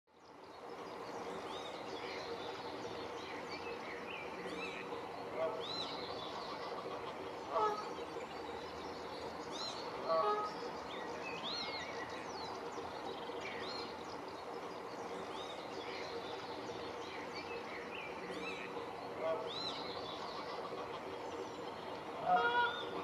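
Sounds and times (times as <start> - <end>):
faint hum: 0.1 - 23.0
birds singing and chirping: 0.2 - 23.0.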